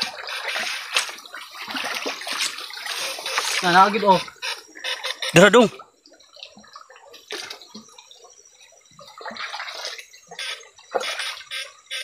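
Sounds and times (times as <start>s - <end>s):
stream water splashing: 0.0s - 12.0s.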